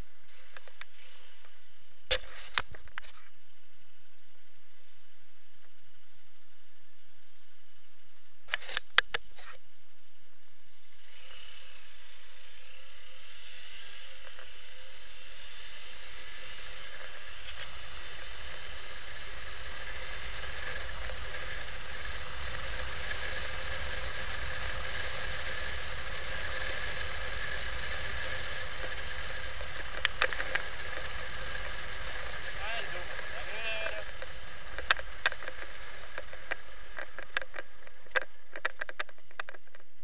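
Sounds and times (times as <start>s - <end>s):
faint steady whine: 0.0s - 40.0s
motorcycle engine: 0.0s - 40.0s.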